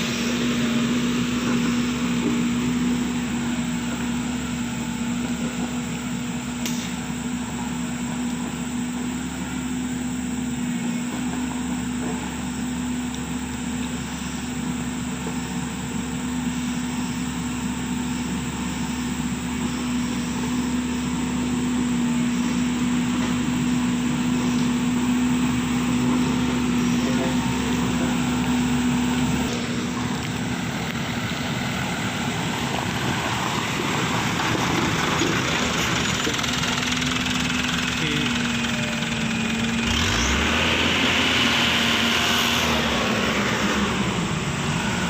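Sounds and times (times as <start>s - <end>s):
engine droning: 0.0s - 45.0s.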